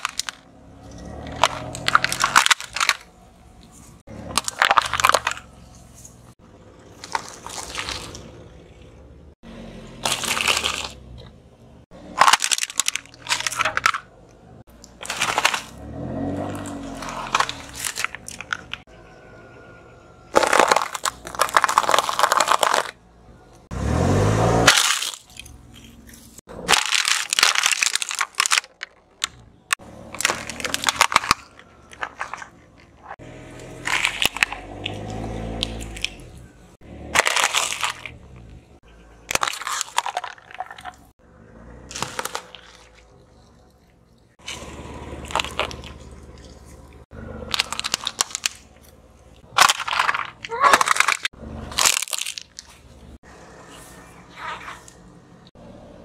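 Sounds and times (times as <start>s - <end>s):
car tyre crushing objects: 0.0s - 19.0s, 20.2s - 56.0s.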